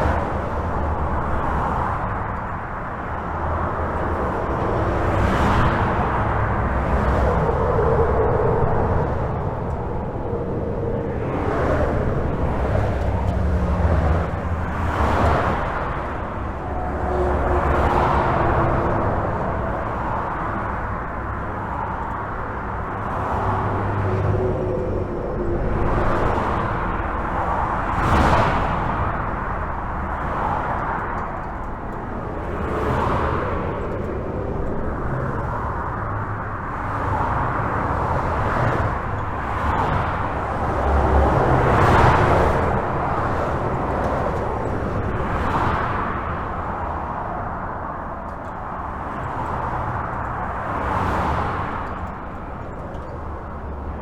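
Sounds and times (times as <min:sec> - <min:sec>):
highway traffic rushing: 0:00.0 - 0:54.0
low traffic rumble: 0:00.0 - 0:54.0
vehicles passing: 0:00.0 - 0:54.0.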